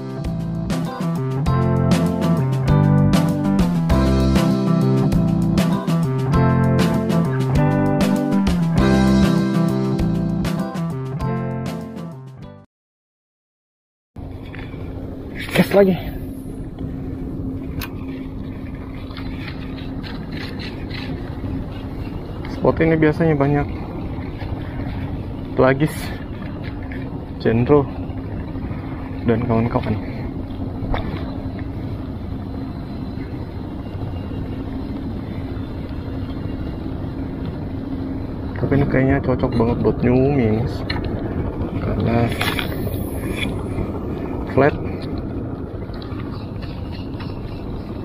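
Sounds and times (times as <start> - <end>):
boat engine droning: 0.0 - 12.1, 14.2 - 48.0.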